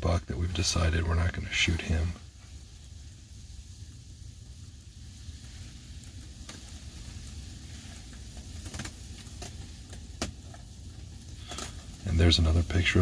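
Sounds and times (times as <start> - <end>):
faint hiss: 0.0 - 13.0
steady low rumble: 0.0 - 13.0.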